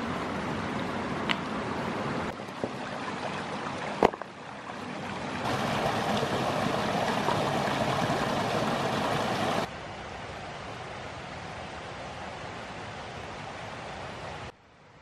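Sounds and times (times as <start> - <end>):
mountain stream rushing: 0.0 - 14.5.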